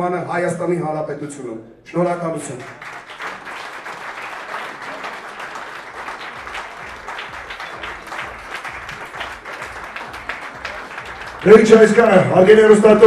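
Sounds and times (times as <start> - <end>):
crowd applauding: 2.5 - 13.0.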